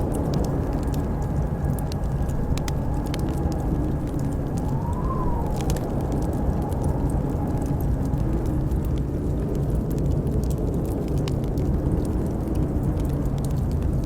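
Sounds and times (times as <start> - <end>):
blizzard wind roaring: 0.0 - 14.0
wind howling: 0.0 - 14.0
wood fire crackling and popping: 0.0 - 14.0.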